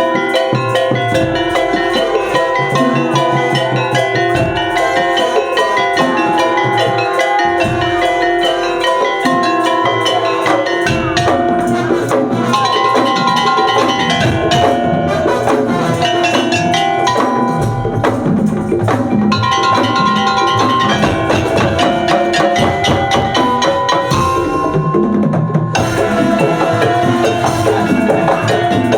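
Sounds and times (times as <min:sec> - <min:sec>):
percussion ensemble playing: 0:00.0 - 0:28.9
tuned percussion melody: 0:00.0 - 0:28.9.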